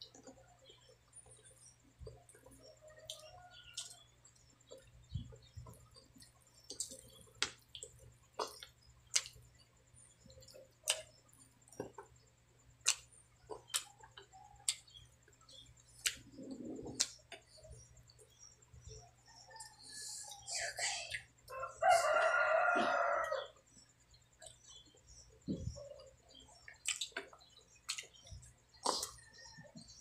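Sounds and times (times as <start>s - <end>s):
wet chewing and lip smacking: 0.0s - 20.5s, 25.7s - 30.0s.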